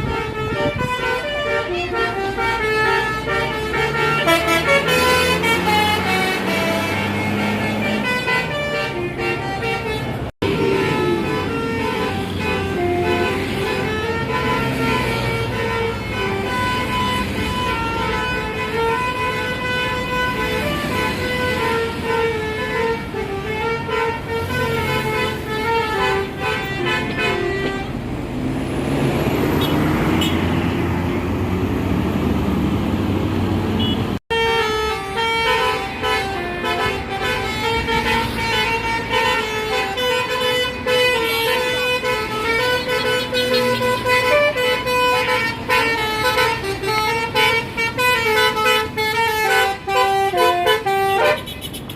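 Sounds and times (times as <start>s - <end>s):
bus musical horn tune: 0.0s - 28.2s, 29.5s - 31.5s, 33.8s - 51.9s
bus engine revving: 0.0s - 51.5s.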